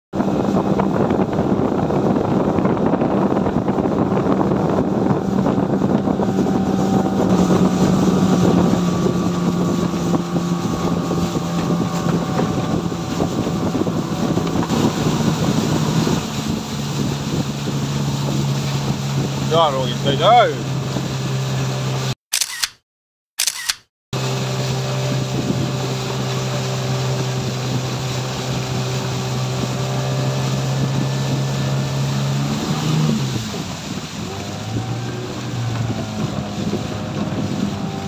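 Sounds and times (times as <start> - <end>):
wind buffeting microphone: 0.1 - 22.0, 24.2 - 38.0
motorboat engine running: 0.1 - 22.2, 24.2 - 38.0
water rushing past: 0.2 - 22.2, 23.5 - 38.0.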